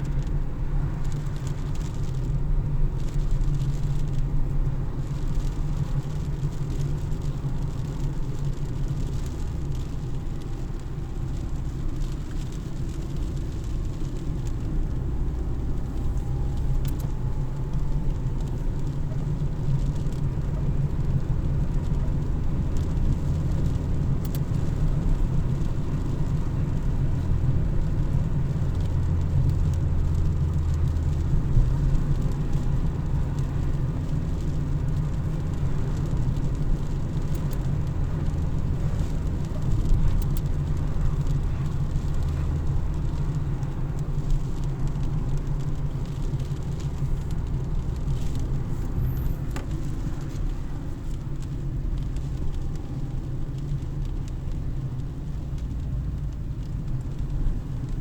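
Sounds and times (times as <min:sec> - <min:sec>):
car driving low rumble: 0:00.0 - 0:58.0
faint light ticks: 0:03.0 - 0:58.0.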